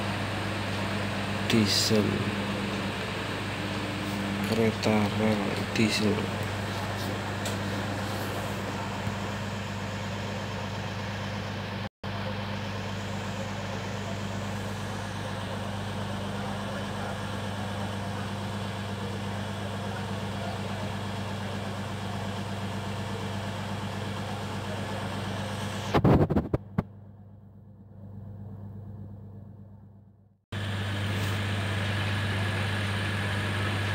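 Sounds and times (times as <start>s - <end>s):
diesel train engines idling: 0.0s - 25.9s, 30.6s - 33.9s.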